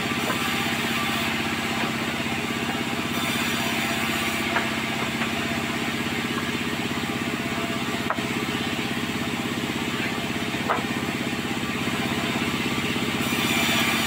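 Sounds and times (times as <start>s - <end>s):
engine running with rapid pulse: 0.0s - 14.0s.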